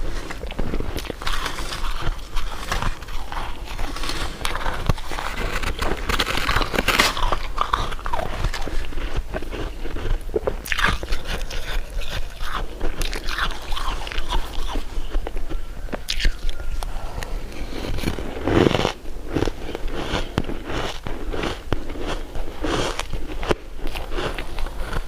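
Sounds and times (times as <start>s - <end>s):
crisp bites and crunching chews: 0.0s - 25.0s.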